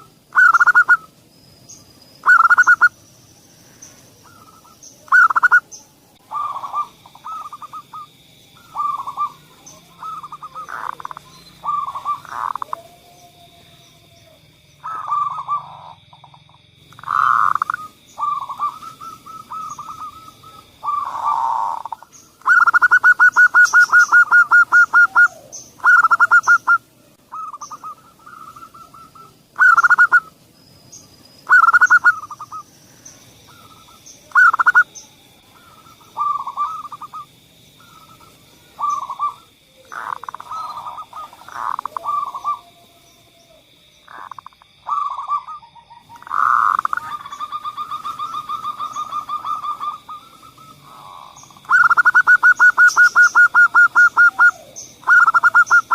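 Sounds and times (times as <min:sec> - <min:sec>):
doves cooing: 0:00.0 - 0:01.1, 0:02.2 - 0:03.0, 0:03.6 - 0:30.4, 0:31.4 - 0:55.9.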